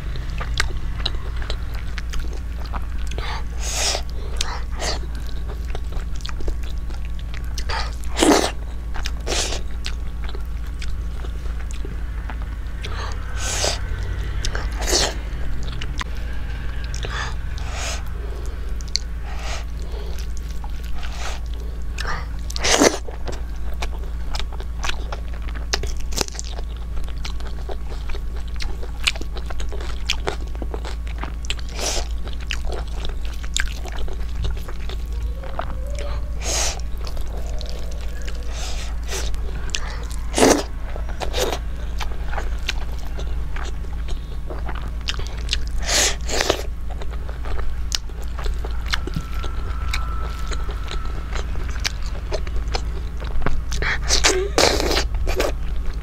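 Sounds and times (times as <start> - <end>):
person chewing food: 0.0 - 56.0
steady low hum: 0.0 - 56.0.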